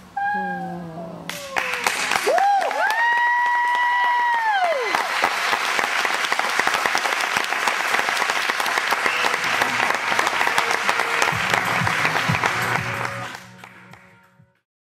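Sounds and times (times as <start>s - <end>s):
audience applauding: 1.3s - 14.3s.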